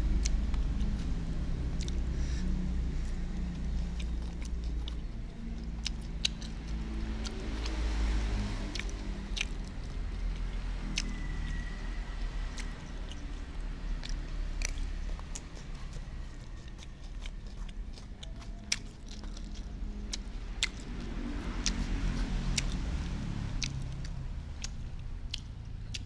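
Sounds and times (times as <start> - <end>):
chewing and mouth clicks: 0.0 - 26.0
low steady rumble: 0.0 - 26.0.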